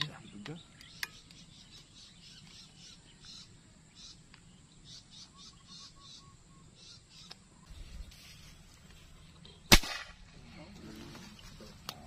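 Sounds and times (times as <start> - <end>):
faint wildlife chirping: 0.0 - 12.0.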